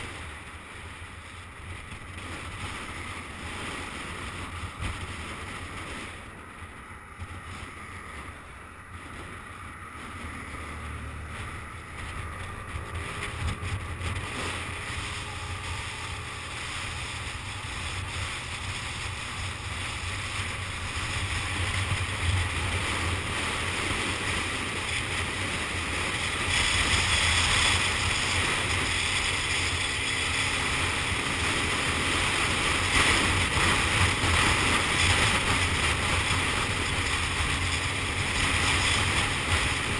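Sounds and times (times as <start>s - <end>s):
motor scooter engine drone: 0.0s - 39.9s
wind rushing over microphone: 0.0s - 39.9s.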